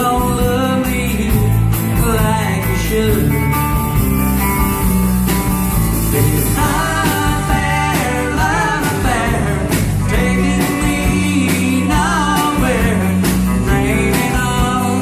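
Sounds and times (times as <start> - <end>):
band playing country music: 0.0 - 15.0.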